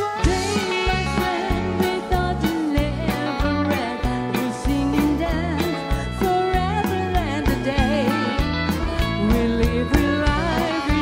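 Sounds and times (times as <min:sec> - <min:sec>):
bass: 0:00.0 - 0:11.0
guitar: 0:00.0 - 0:11.0
woman singing into a microphone: 0:00.0 - 0:11.0.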